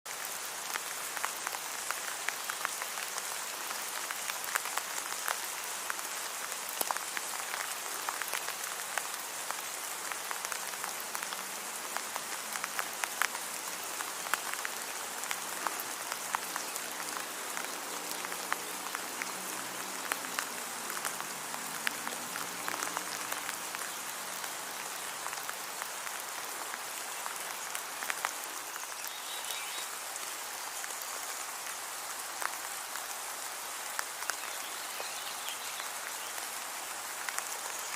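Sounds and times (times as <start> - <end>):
steady rain falling: 0.1 - 37.9.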